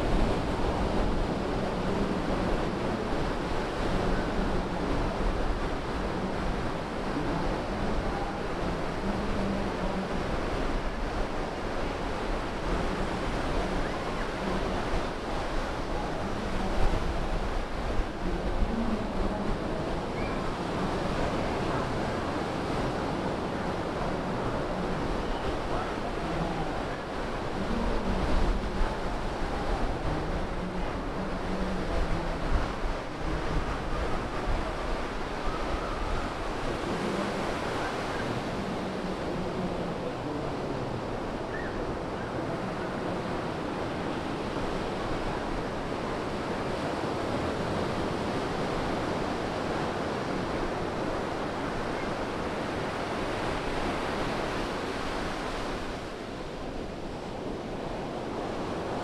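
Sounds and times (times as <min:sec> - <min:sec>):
waves breaking on sand: 0:00.0 - 0:59.0
wind buffeting microphone: 0:00.0 - 0:59.0.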